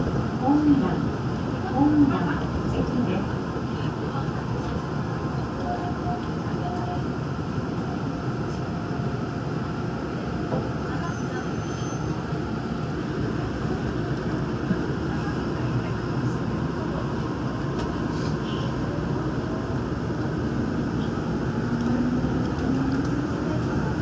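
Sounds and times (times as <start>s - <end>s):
monorail running noise: 0.0s - 24.0s.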